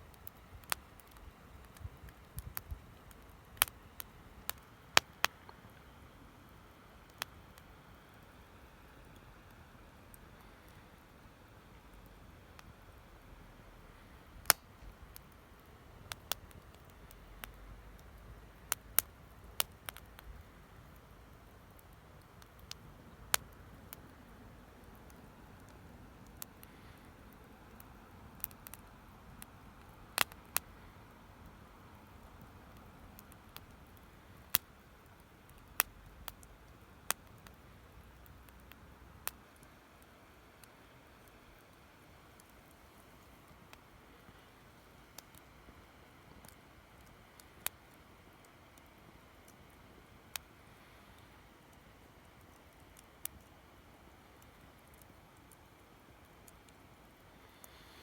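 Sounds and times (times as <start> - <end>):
wood fire crackling and popping: 0.0 - 13.3, 13.9 - 39.8, 40.6 - 58.0
faint steady hiss: 0.0 - 58.0.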